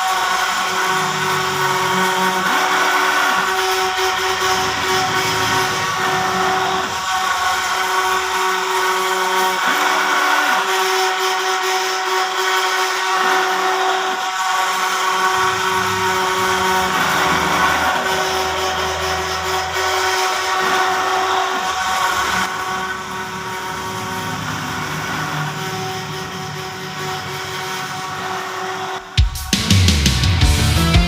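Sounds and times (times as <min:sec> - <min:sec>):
small electric motor whining: 0:00.0 - 0:29.1.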